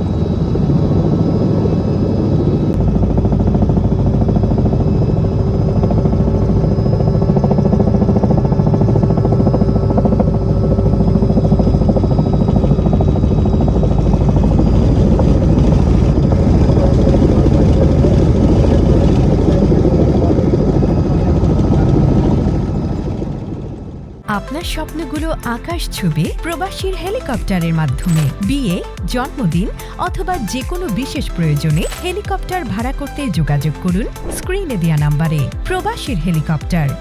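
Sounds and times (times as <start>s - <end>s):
helicopter rotor and engine: 0.0s - 36.7s.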